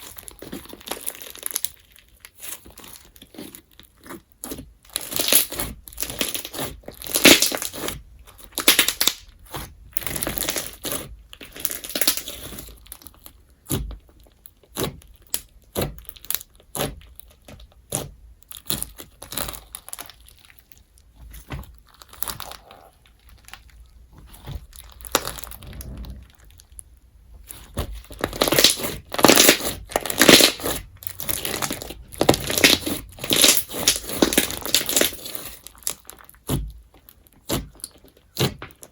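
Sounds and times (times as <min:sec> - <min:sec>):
crunchy slime squeezed by hand: 0:00.0 - 0:38.9.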